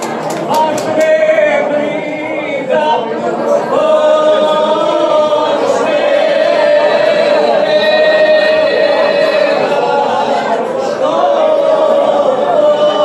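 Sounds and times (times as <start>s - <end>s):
women singing a cappella: 1.0s - 13.0s.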